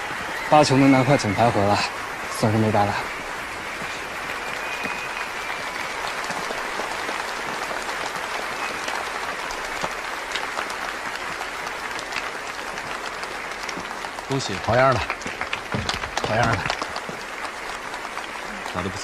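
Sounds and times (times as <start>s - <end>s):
crowd applauding: 0.0s - 19.0s.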